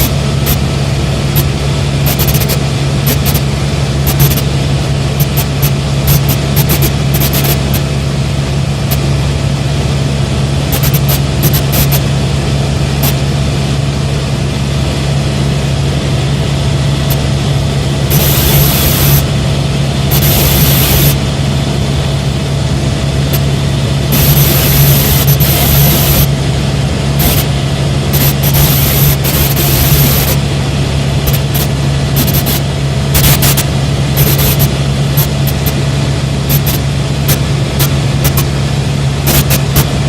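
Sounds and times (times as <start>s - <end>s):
helicopter engine and rotor drone: 0.0s - 40.0s.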